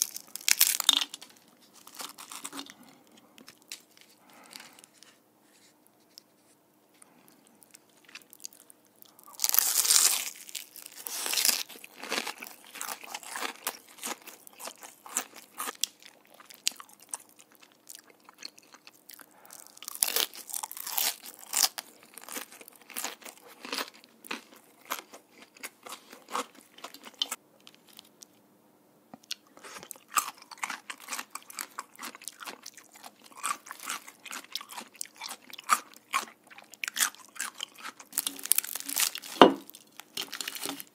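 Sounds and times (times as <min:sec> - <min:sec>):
chewing: 0:00.0 - 0:05.2, 0:07.0 - 0:28.3, 0:29.2 - 0:40.9
crispy fried chicken crunching: 0:00.0 - 0:05.2, 0:07.0 - 0:28.3, 0:29.2 - 0:40.9.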